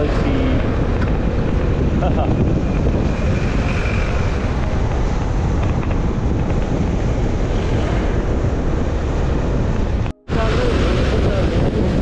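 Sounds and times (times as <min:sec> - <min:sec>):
scooter engine and road noise: 0:00.0 - 0:12.0
wind buffeting microphone: 0:00.0 - 0:12.0.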